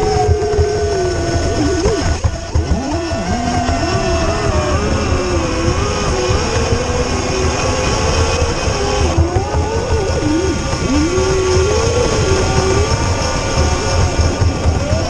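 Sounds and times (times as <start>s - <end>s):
rc speedboat motor whine: 0.0s - 15.0s.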